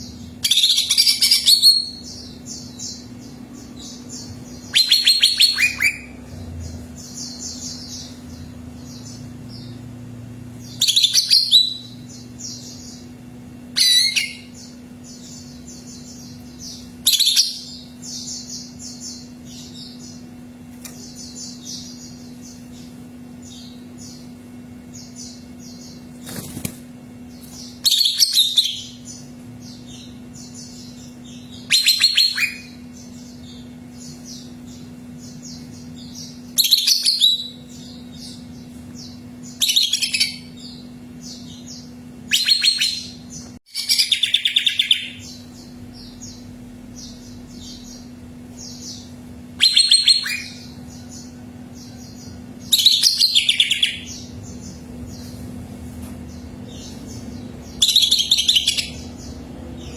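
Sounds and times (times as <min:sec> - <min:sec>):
bird twittering: 0:00.0 - 0:09.8, 0:10.6 - 0:13.1, 0:13.7 - 0:20.3, 0:27.6 - 0:55.3, 0:56.3 - 0:59.9
bird singing trilled phrases: 0:00.0 - 0:09.9, 0:10.5 - 0:26.5, 0:27.3 - 0:55.3, 0:56.3 - 0:59.9
steady low hum: 0:00.0 - 0:59.9.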